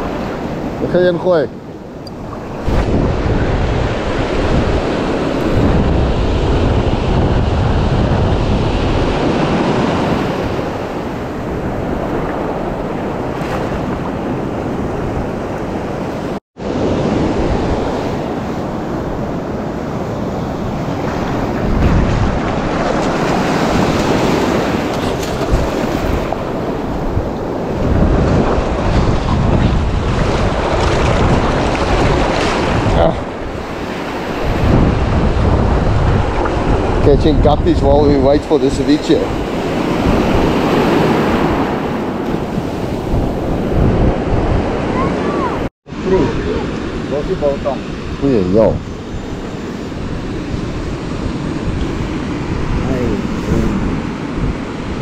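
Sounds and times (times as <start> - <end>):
surf washing on shore: 0.0 - 55.0
wind buffeting microphone: 0.0 - 55.0.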